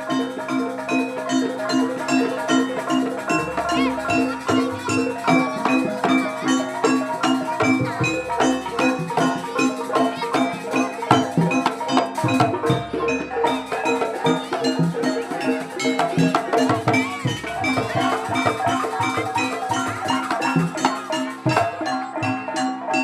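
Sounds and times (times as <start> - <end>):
drums: 0.0 - 23.0
metallophones playing repeating pattern: 0.0 - 23.0.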